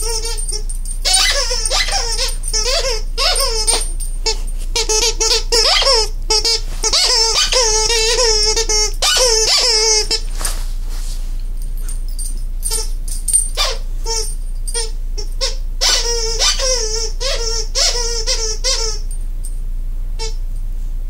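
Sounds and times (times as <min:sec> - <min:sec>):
dog toy squeaking: 0:00.0 - 0:10.3, 0:11.8 - 0:19.2, 0:20.2 - 0:20.4.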